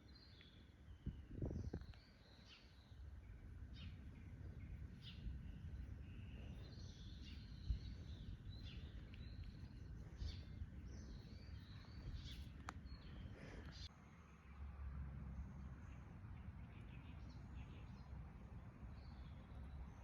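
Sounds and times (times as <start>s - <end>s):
small birds chirping: 0.0s - 14.7s, 15.7s - 20.0s
faint low rumble: 0.1s - 20.0s.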